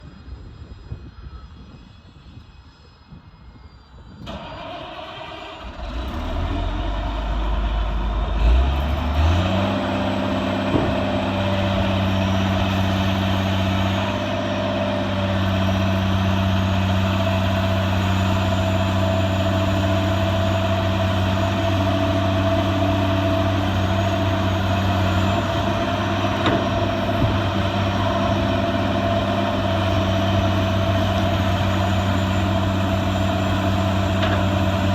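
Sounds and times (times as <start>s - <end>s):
diesel engine cranking and idling: 4.2s - 34.9s.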